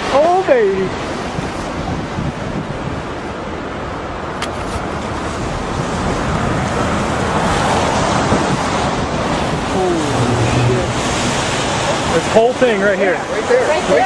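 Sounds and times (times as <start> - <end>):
storm wind buffeting microphone: 0.0 - 13.9.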